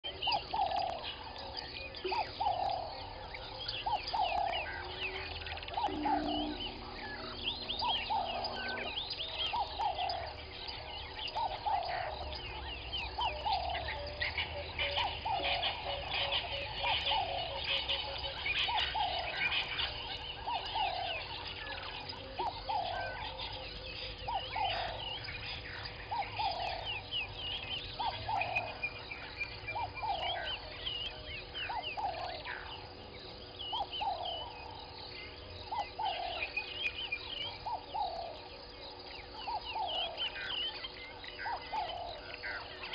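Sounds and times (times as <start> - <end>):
birds chirping: 0.0 - 42.9
doves cooing: 0.0 - 42.9.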